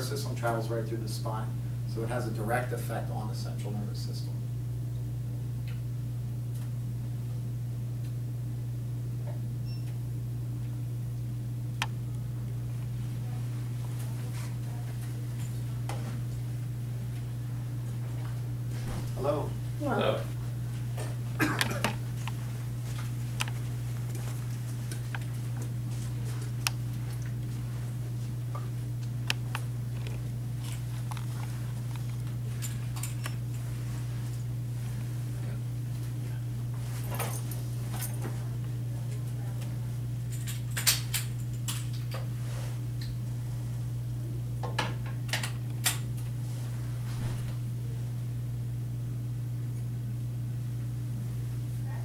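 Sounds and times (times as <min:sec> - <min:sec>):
low room tone hum: 0:00.0 - 0:52.0.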